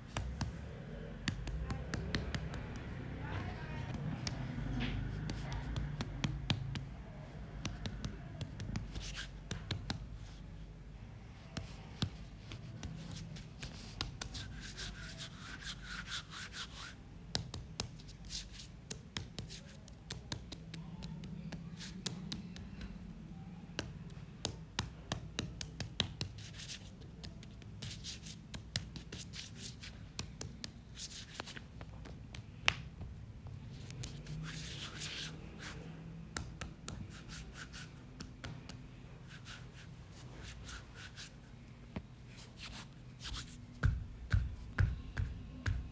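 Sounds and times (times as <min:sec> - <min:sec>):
hands scratching and rubbing materials: 0:00.0 - 0:10.5, 0:11.3 - 0:23.1, 0:23.8 - 0:45.9.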